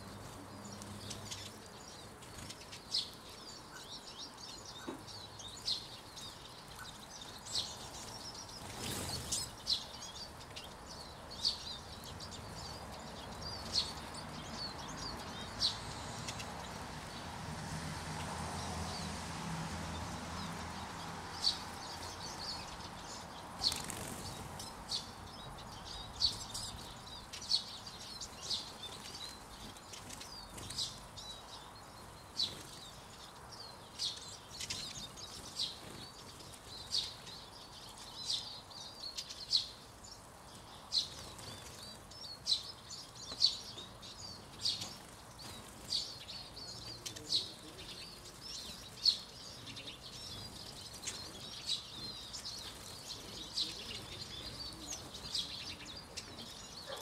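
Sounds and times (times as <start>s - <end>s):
finches chirping: 0.0s - 17.2s, 20.0s - 57.0s.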